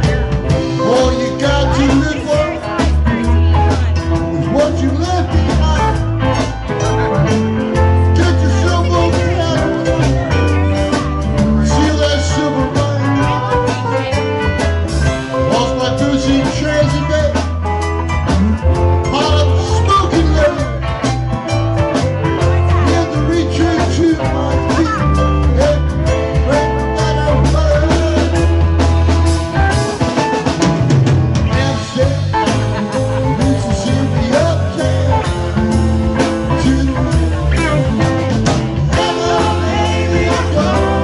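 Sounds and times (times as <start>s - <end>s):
heavy bass line: 0.0s - 41.0s
live band playing: 0.0s - 41.0s.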